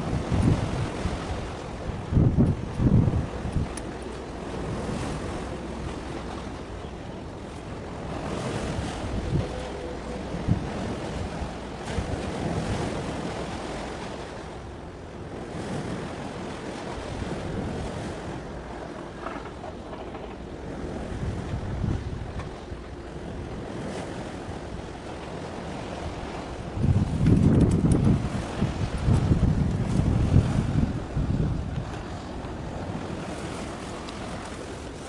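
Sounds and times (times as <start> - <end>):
waves washing: 0.0 - 35.0
wind buffeting microphone: 0.0 - 35.0.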